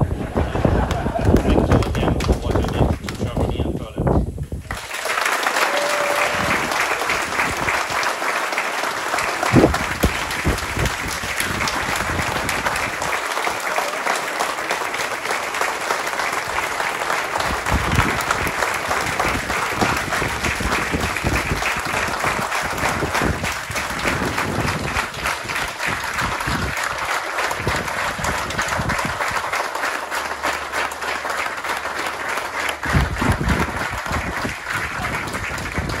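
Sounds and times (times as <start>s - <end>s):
large audience clapping: 0.0s - 36.0s.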